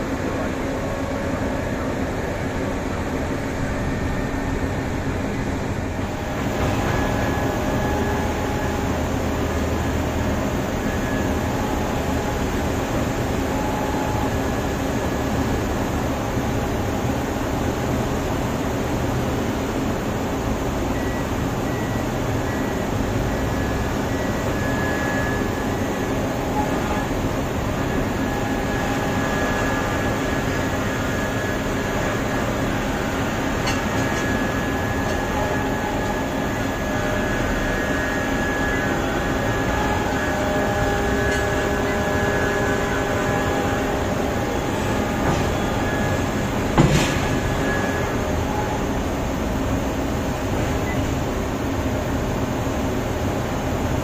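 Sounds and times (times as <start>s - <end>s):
heavy machine engine noise: 0.0s - 54.0s
faint whining tones: 0.2s - 16.1s, 20.9s - 49.8s.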